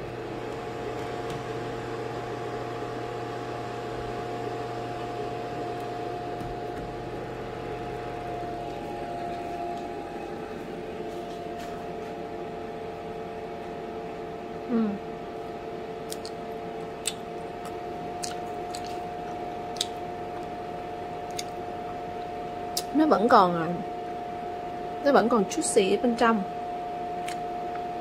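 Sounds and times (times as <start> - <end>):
food dehydrator fan humming: 0.0 - 28.0.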